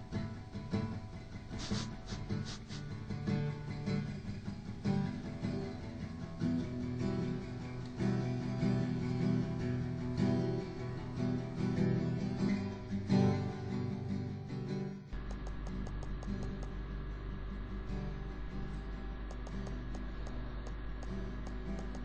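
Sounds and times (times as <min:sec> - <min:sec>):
acoustic guitar strumming chords: 0:00.0 - 0:22.0
low steady hum: 0:00.0 - 0:22.0.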